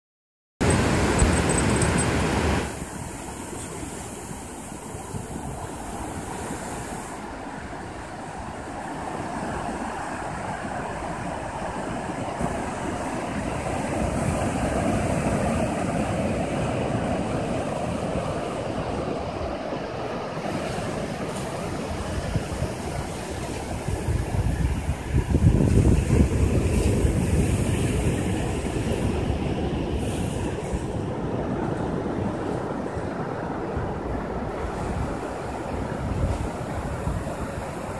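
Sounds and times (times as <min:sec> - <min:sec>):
ocean surf breaking: 0:00.6 - 0:37.9
wind on microphone: 0:00.6 - 0:37.9.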